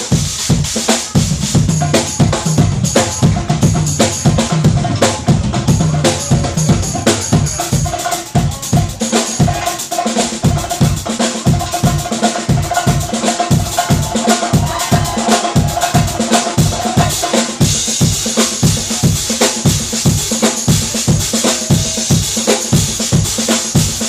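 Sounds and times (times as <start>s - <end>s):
fast drum solo: 0.0s - 24.0s.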